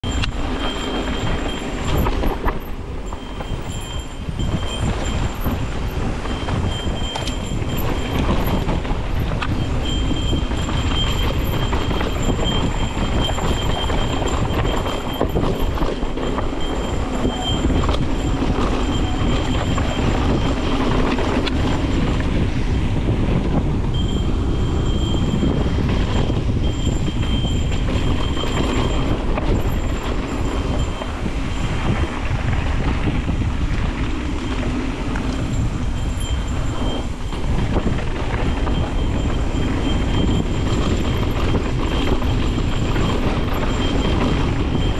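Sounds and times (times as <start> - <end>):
wind noise on microphone: 0.0 - 44.9
bike tyres rumbling over rocks: 0.1 - 44.9.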